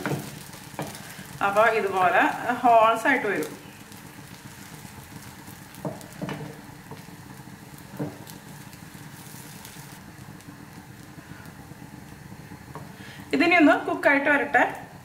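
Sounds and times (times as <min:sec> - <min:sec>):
batter sizzling on a hot pan: 0:00.0 - 0:15.0.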